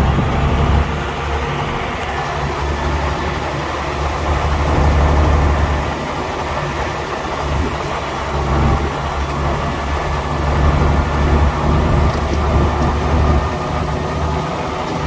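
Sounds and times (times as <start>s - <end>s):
bulldozer diesel engine rumbling: 0.0s - 15.0s.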